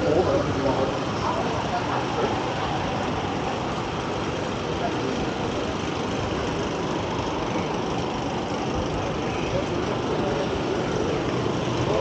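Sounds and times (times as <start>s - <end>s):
large vehicle engine running: 0.0s - 12.0s
road noise hiss: 0.0s - 12.0s.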